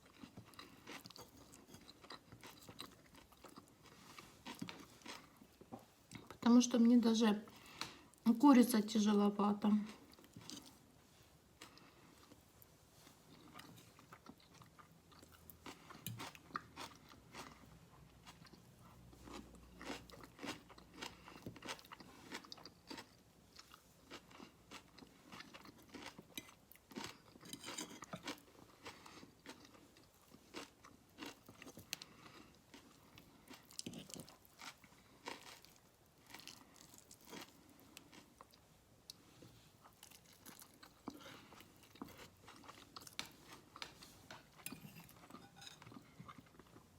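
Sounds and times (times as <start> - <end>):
person chewing: 0.0 - 6.4, 10.0 - 10.8, 13.0 - 46.9.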